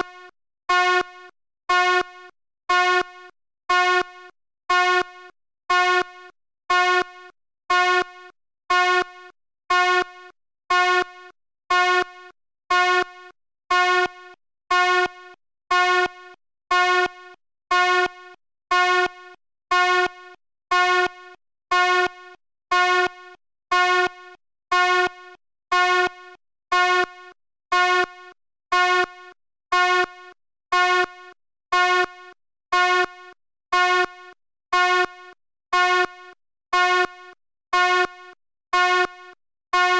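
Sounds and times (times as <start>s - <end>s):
fire alarm horn blasts: 0.0s - 39.9s.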